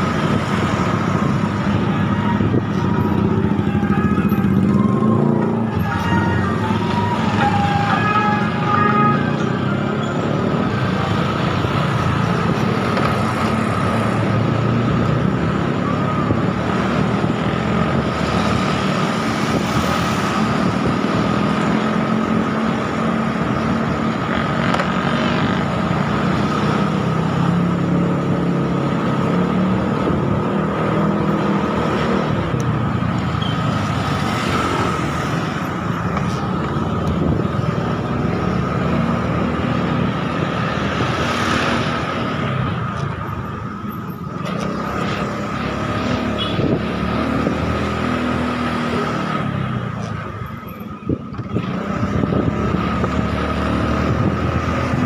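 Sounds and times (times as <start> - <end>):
road and traffic noise: 0.0 - 55.0.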